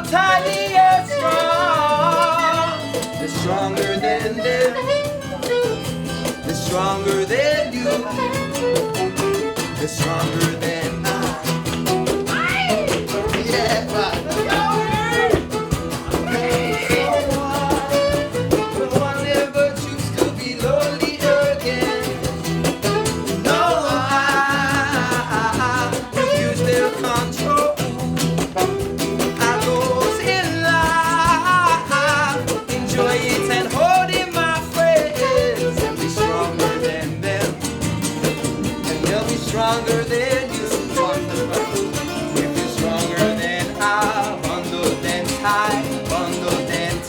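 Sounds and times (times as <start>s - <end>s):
live band playing: 0.0s - 47.0s.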